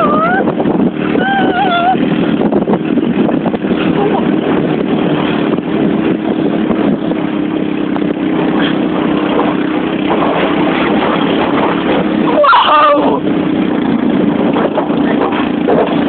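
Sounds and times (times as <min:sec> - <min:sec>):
quad bike engine running: 0:00.0 - 0:16.0
rough noisy wash: 0:00.0 - 0:16.0.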